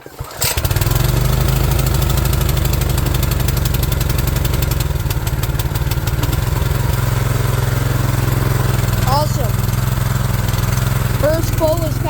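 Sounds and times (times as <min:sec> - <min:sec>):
small engine running at full throttle: 0:00.0 - 0:12.0.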